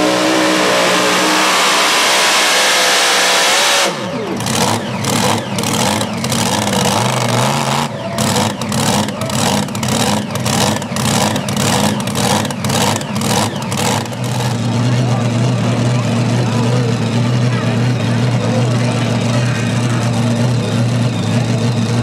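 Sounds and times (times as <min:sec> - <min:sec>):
tractor engine revving down and idling: 0:00.0 - 0:22.0.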